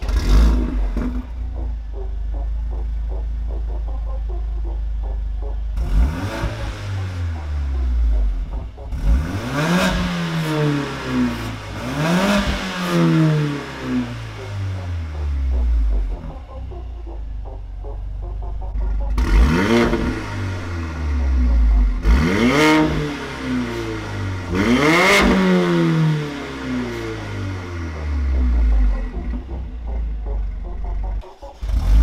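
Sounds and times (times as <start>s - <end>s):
car engine revving: 0.0s - 32.0s
car engine starting and idling: 0.0s - 32.0s.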